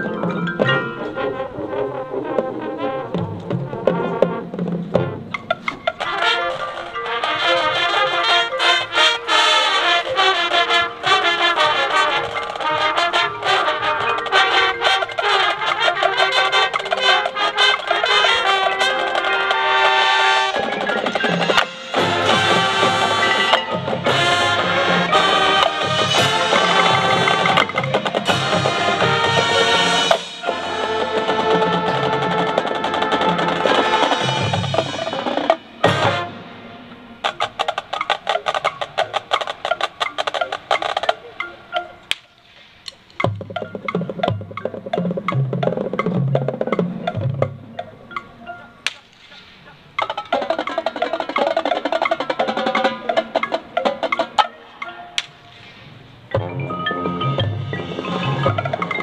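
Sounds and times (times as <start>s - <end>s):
marching band brass: 0.0s - 41.2s, 48.8s - 59.0s
marching drums: 0.0s - 41.2s, 42.7s - 47.7s, 49.0s - 54.5s, 55.2s - 59.0s.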